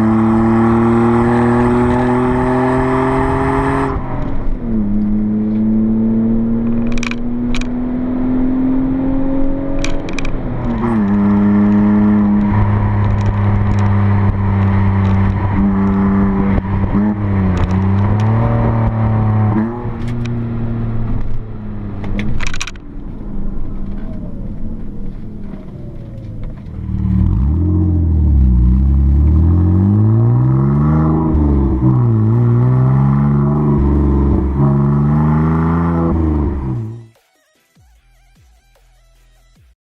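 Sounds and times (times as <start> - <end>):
car engine revving: 0.0 - 37.2.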